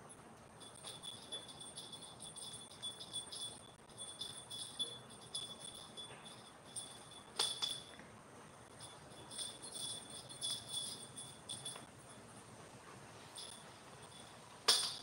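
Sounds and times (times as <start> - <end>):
small bell jingling: 0.1 - 8.0, 8.6 - 12.3, 13.4 - 15.0.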